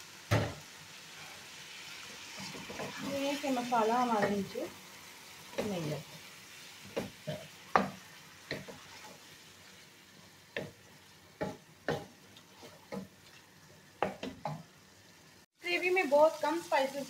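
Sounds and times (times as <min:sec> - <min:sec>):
faint frying sizzle: 0:00.0 - 0:17.0.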